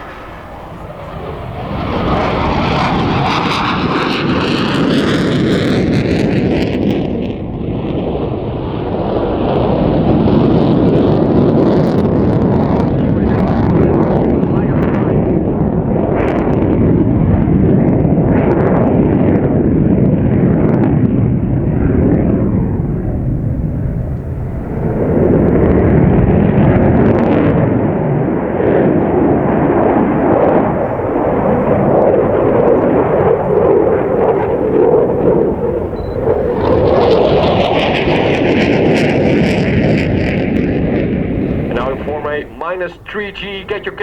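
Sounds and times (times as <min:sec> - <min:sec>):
fighter jet roaring: 0:00.0 - 0:44.0.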